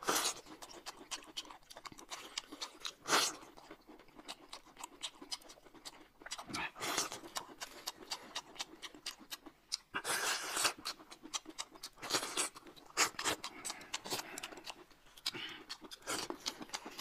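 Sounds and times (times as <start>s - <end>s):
chewing and crunching: 0.0s - 17.0s.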